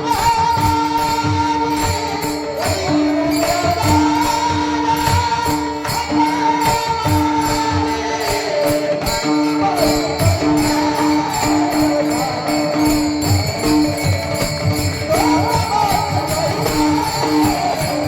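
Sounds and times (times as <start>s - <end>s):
drum beats: 0.0s - 18.0s
jingling percussion: 0.0s - 18.0s.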